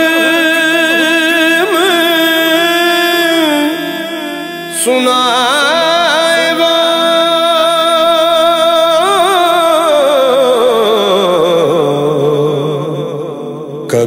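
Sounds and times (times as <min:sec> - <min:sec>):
man singing with heavy vibrato: 0:00.0 - 0:14.0.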